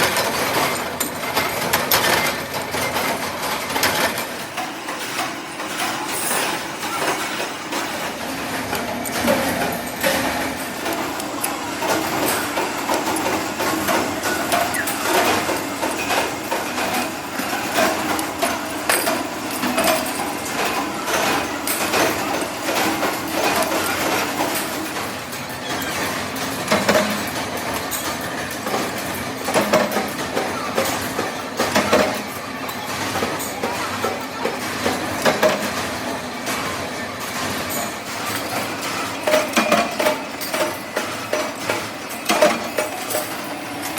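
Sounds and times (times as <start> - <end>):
machine clattering metal knocks: 0.0 - 43.9.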